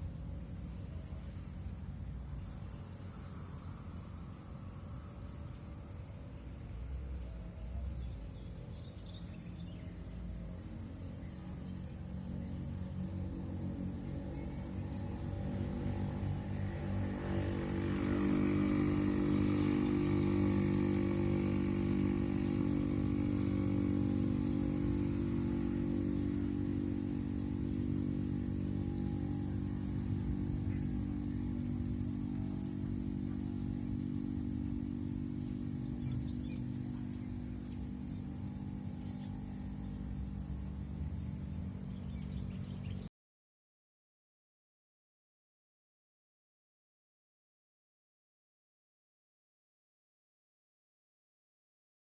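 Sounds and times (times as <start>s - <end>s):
small engine running: 0.0s - 43.1s.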